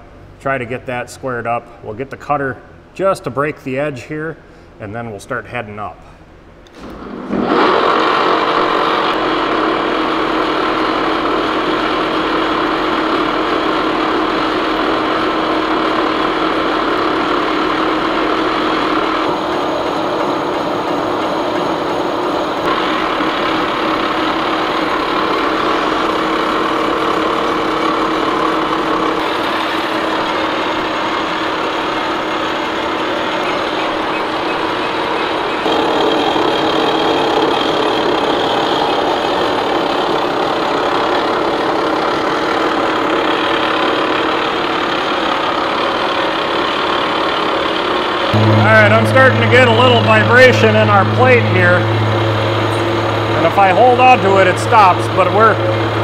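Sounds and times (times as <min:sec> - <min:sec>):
face mill cutting steel: 0:07.3 - 0:45.2, 0:48.3 - 0:56.0.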